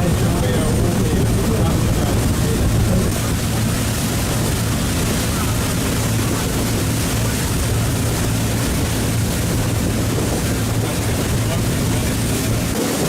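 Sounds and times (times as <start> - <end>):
boat engine running: 0.0 - 13.0
rushing wind: 0.0 - 13.0
water noise: 0.0 - 13.0.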